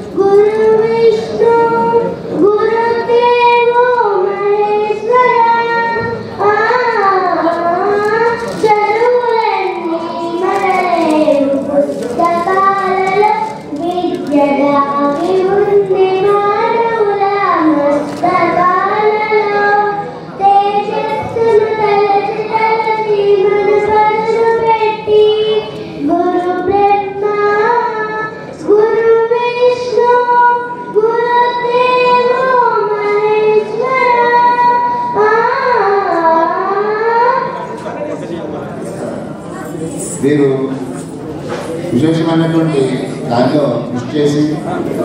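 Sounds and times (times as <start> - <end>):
girl singing into a microphone: 0.0 - 37.6.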